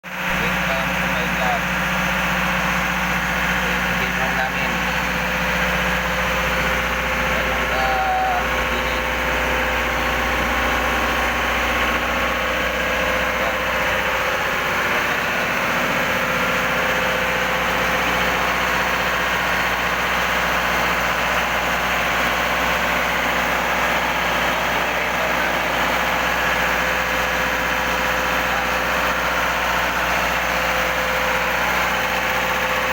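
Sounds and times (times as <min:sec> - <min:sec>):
engine room machinery drone: 0:00.0 - 0:32.9.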